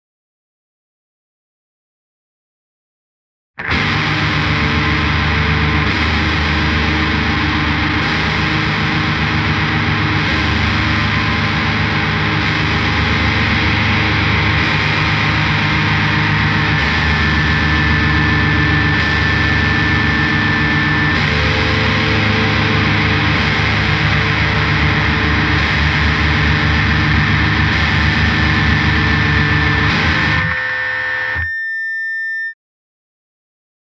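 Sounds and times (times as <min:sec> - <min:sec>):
distorted electric guitar riff: 0:03.6 - 0:32.5.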